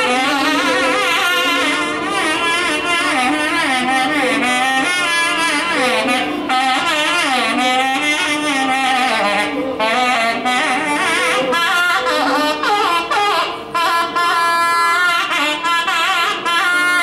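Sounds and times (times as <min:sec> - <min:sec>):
double-reed oboe melody: 0:00.0 - 0:17.0.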